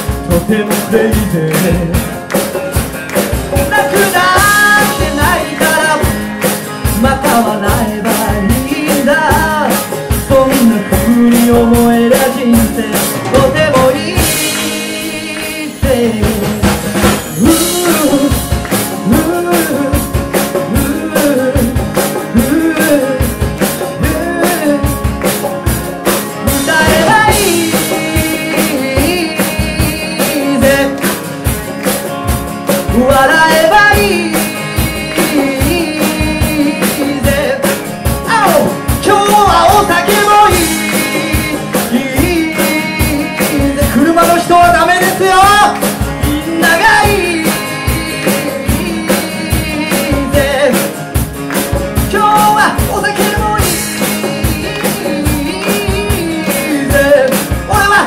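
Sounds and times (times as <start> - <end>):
bending melody line: 0.0 - 58.0
drum kit beat: 0.0 - 58.0
electric guitars and bass: 0.0 - 58.0.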